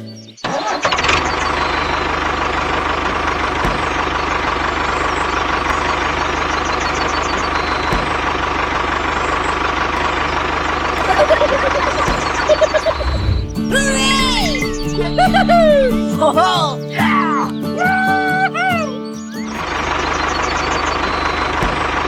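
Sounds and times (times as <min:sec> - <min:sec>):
tractor engine idling with knocking: 0:00.9 - 0:16.8, 0:19.4 - 0:22.0.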